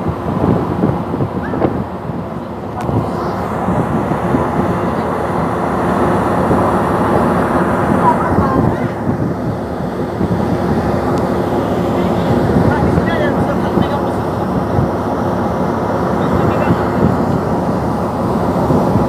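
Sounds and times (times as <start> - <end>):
ferry engines rumbling: 0.0 - 19.0
wind on microphone: 0.0 - 19.0.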